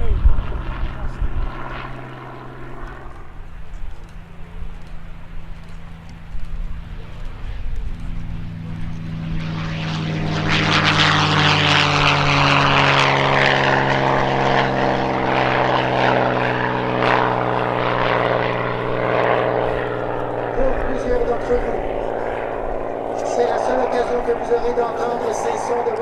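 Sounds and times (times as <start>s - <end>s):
propeller aircraft engine running: 0.0s - 26.0s.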